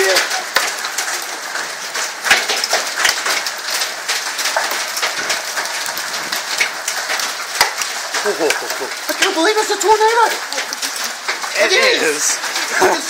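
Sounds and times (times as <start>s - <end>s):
heavy rain falling: 0.0s - 13.0s
sharp raindrop strikes: 0.0s - 13.0s.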